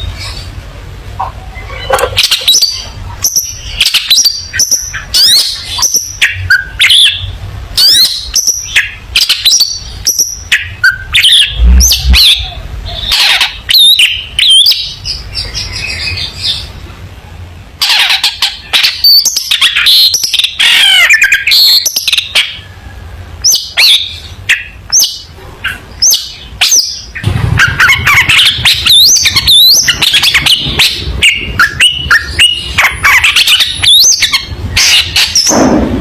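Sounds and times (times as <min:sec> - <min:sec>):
bird singing harsh chattering notes: 0:01.2 - 0:16.8, 0:17.8 - 0:22.7, 0:23.4 - 0:36.0.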